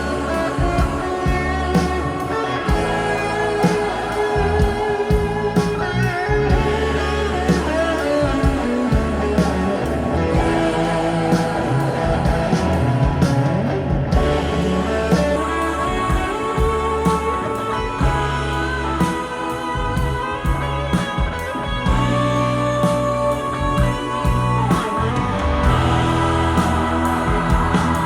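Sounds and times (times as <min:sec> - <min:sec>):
rock music over loudspeakers: 0:00.0 - 0:28.0.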